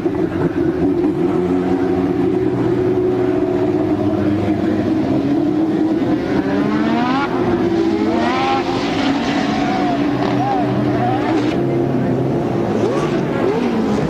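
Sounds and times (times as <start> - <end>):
race car accelerating hard: 0.0 - 14.0
race car engines droning: 0.0 - 14.0.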